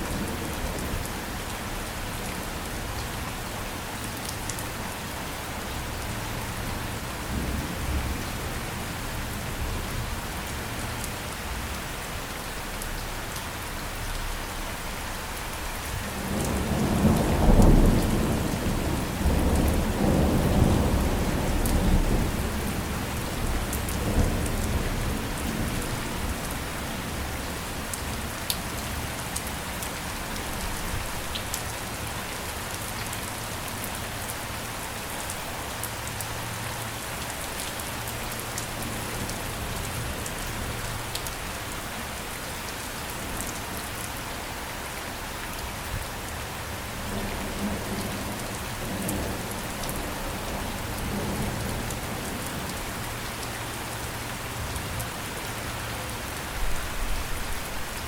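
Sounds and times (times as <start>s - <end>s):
steady rain with drop ticks: 0.0s - 58.0s.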